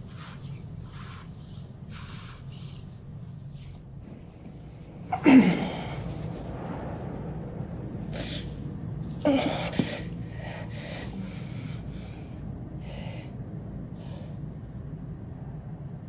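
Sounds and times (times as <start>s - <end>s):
gasping breaths: 0.0s - 7.1s, 8.0s - 14.6s
low steady rumble: 0.0s - 16.0s.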